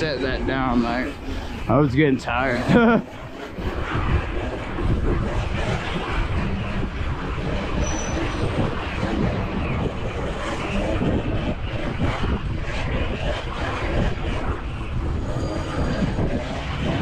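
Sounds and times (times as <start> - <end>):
road and traffic noise: 0.0 - 17.0
wind rumbling on microphone: 0.0 - 17.0.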